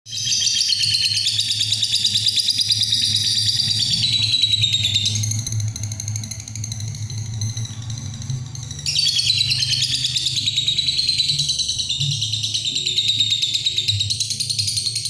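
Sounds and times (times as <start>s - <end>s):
lovebird chattering: 0.3s - 15.0s.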